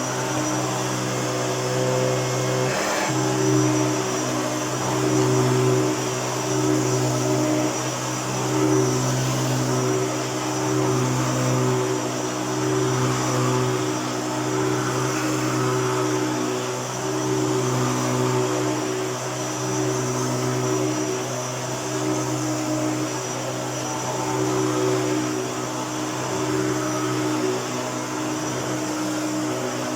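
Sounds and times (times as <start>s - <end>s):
upright vacuum cleaner running: 0.0s - 29.9s.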